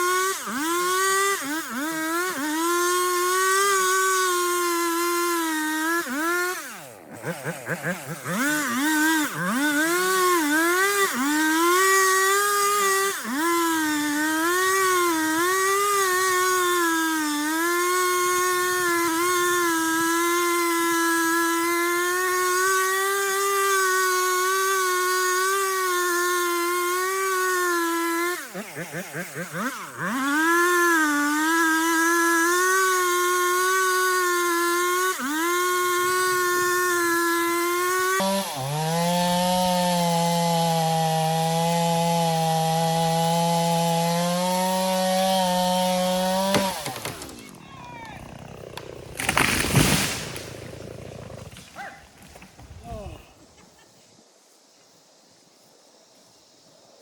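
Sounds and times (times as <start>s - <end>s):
chainsaw cutting a tree trunk: 0.0s - 53.2s.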